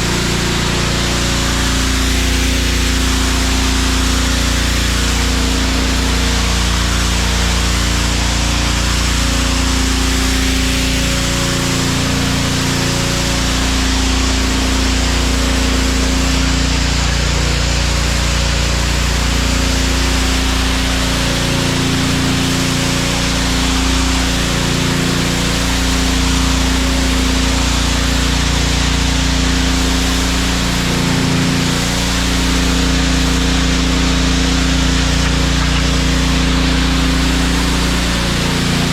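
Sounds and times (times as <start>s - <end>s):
high-pressure water spraying: 0.0s - 38.9s
pressure washer engine humming: 0.0s - 38.9s.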